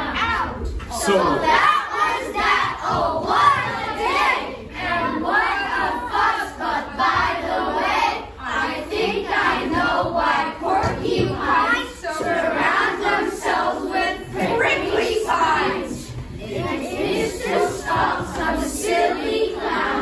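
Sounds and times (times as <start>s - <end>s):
children reciting in unison: 0.0s - 20.0s.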